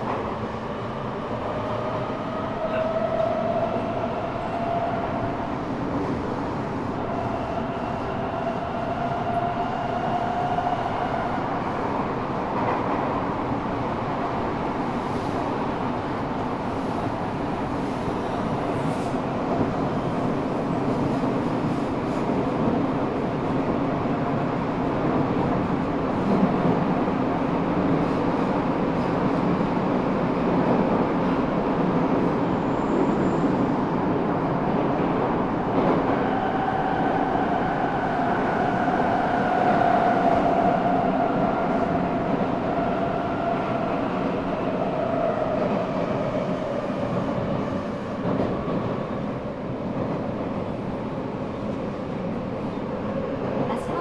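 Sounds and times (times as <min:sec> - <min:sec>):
train wheel and rail rumble: 0:00.0 - 0:54.0.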